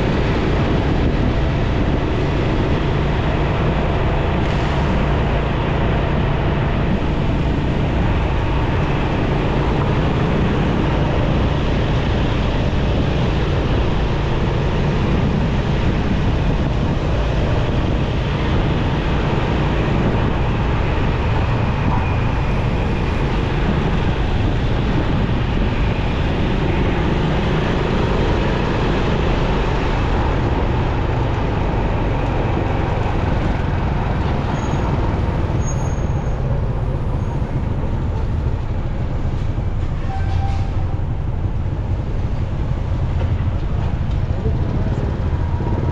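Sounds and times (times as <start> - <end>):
motorcycle in city traffic: 0.0 - 45.9.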